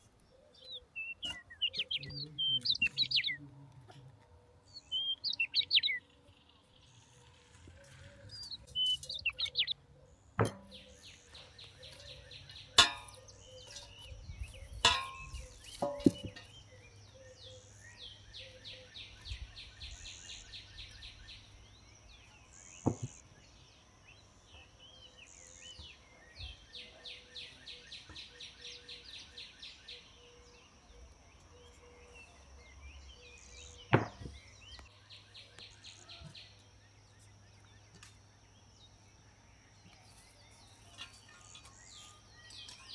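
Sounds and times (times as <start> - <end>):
songbird trilling: 0.3 - 3.5, 4.7 - 6.5, 7.3 - 36.9.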